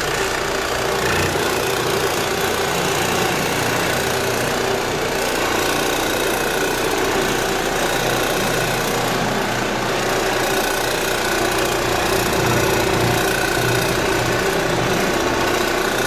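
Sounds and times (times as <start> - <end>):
floor machine scrubbing: 0.0 - 16.0.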